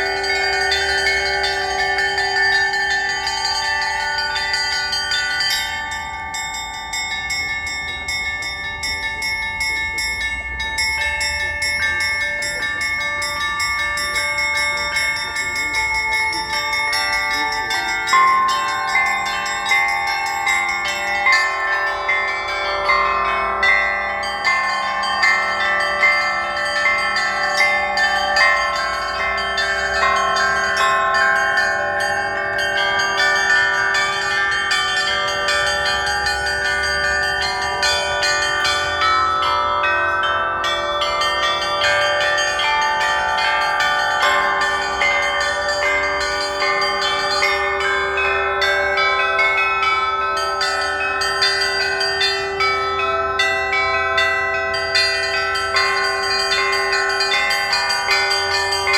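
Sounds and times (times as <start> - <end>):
church bells pealing: 0.0 - 58.9.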